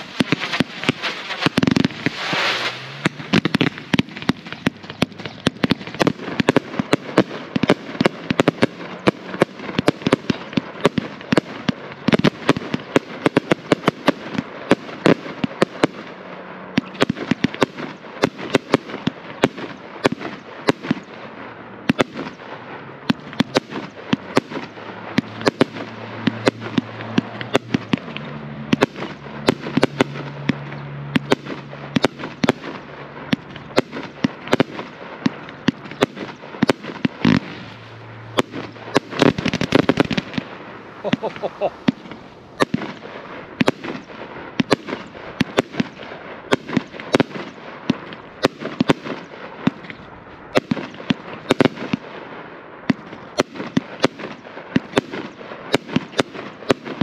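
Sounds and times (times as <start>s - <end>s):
firework shells bursting: 0.0s - 52.0s
crackling firework stars: 0.0s - 57.0s.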